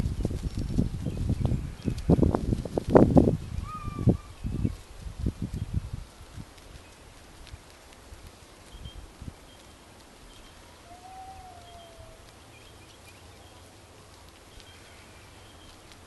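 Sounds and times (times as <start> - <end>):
sheep pulling grass: 0.0 - 3.6, 4.3 - 16.0
wind rumble on microphone: 0.0 - 13.0.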